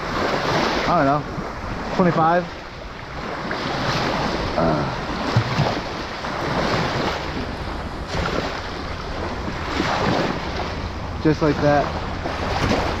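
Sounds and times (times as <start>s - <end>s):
water splashing: 0.0s - 13.0s
wind buffeting microphone: 0.0s - 13.0s.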